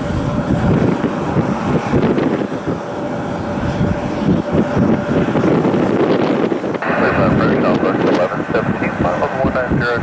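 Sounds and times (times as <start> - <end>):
high engine whine: 0.0 - 10.0
jet engines rumbling: 0.0 - 10.0.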